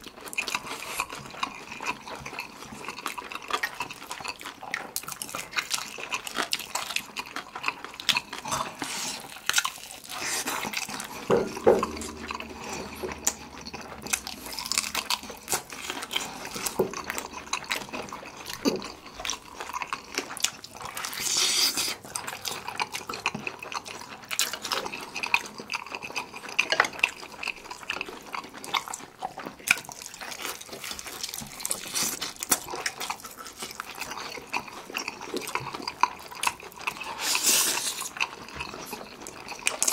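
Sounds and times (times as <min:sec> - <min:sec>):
sticky clicks of eating: 0:00.0 - 0:39.9
wet chewing: 0:00.0 - 0:39.9.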